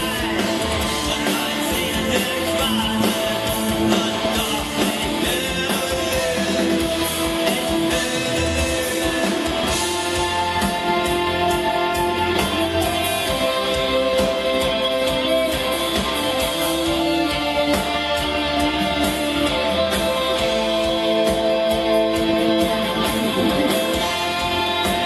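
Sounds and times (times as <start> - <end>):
electric guitars sustained chords: 0.0 - 25.0
steady drum beat: 0.0 - 25.0.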